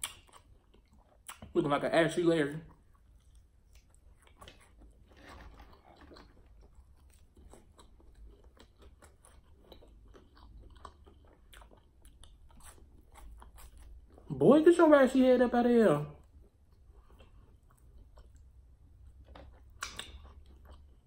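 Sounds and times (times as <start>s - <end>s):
chewing crunchy food: 0.0s - 14.4s, 16.2s - 21.0s.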